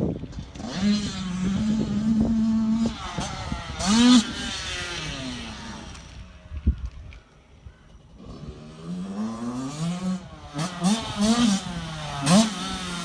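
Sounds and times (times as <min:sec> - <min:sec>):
dirt bike engine revving: 0:00.0 - 0:06.4, 0:08.1 - 0:13.0.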